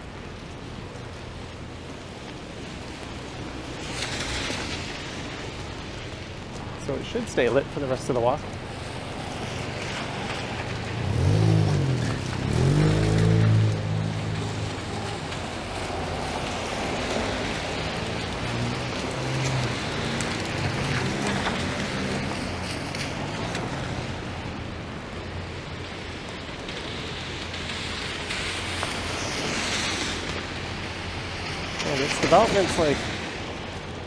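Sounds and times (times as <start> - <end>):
rain hissing on street: 0.0 - 34.0
traffic engine hum: 0.0 - 34.0.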